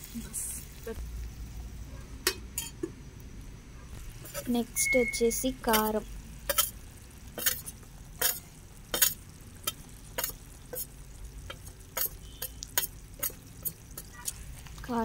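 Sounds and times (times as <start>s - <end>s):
curry crackling and popping: 0.0s - 15.0s.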